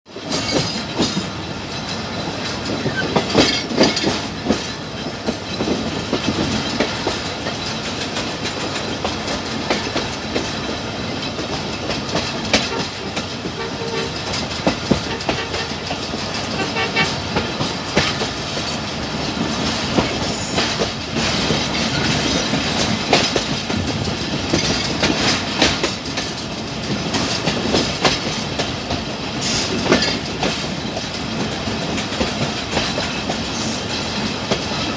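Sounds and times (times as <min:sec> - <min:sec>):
train rumble: 0:00.1 - 0:34.9
train wheels clattering over joints: 0:00.1 - 0:34.9.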